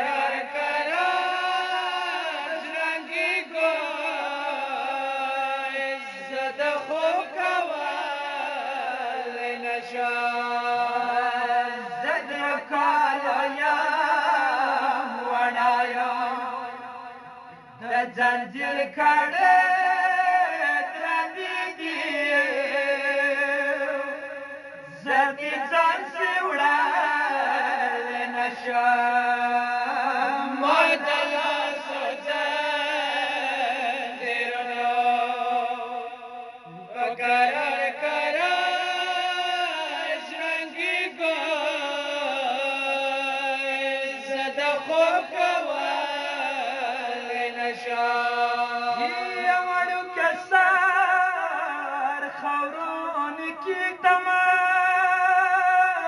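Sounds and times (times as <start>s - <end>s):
men chanting a mourning lament: 0.0s - 56.0s.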